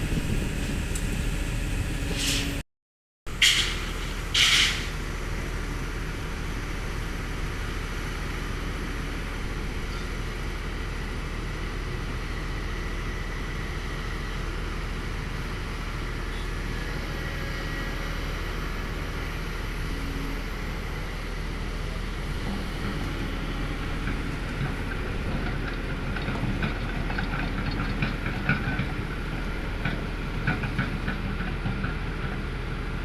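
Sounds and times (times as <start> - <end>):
excavator diesel engine running: 3.3 - 33.0.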